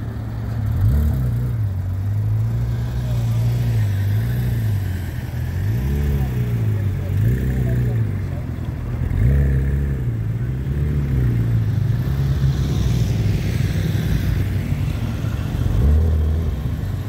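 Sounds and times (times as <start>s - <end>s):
car and motorcycle engines passing: 0.0s - 17.0s.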